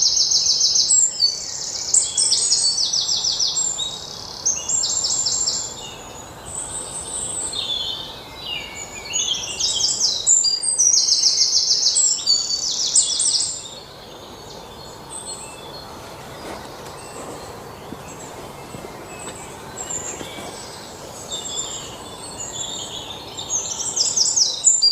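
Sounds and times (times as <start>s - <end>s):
small birds chirping in trills: 0.0s - 24.9s
steady background hiss: 0.0s - 24.9s.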